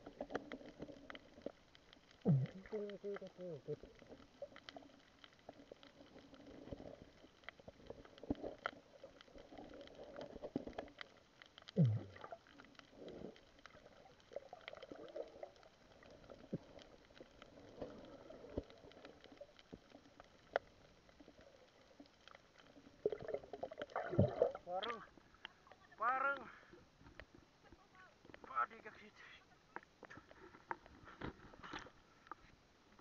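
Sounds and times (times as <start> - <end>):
faint underwater clicks and crackles: 0.0 - 33.0
low uneven murmur: 0.0 - 33.0.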